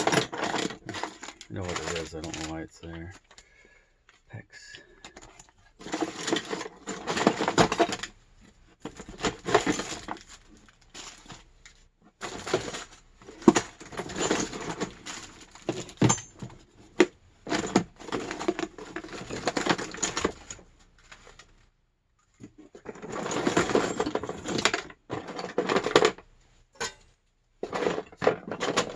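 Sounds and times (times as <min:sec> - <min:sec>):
metal parts clattering together: 0:00.0 - 0:03.4, 0:05.0 - 0:08.1, 0:08.8 - 0:16.6, 0:17.4 - 0:21.4, 0:22.4 - 0:26.2, 0:26.8 - 0:28.9.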